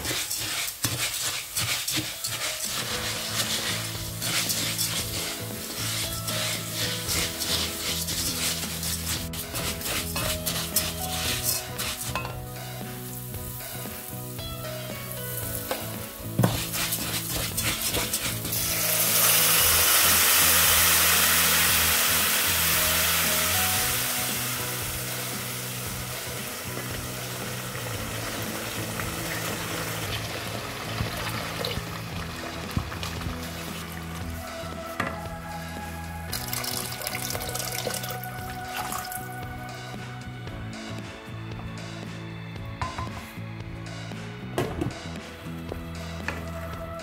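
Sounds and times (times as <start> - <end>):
wooden spoon stirring dry grains: 0.0 - 39.5
water sizzling in hot pan: 0.0 - 39.6
background music: 0.0 - 47.0.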